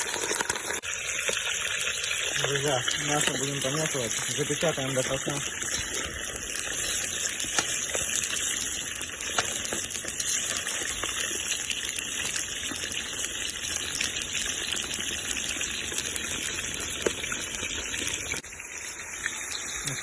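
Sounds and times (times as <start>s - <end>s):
chicken frying in hot oil: 0.0s - 20.0s.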